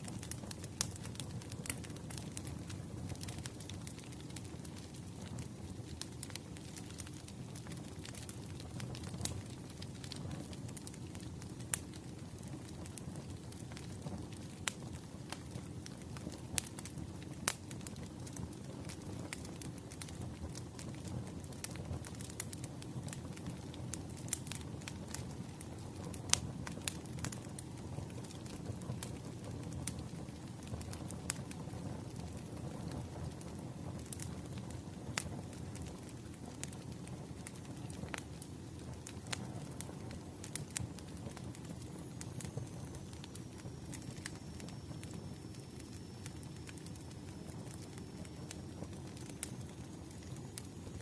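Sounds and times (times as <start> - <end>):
fire rumbling: 0.0 - 51.0
firewood crackling and popping: 0.0 - 51.0.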